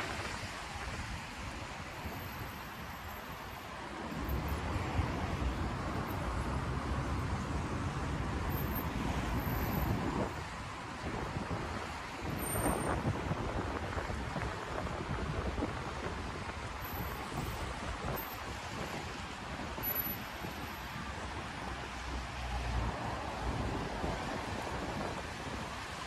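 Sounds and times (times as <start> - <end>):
car engines: 0.0 - 26.0
tyres hissing on wet road: 0.0 - 26.0.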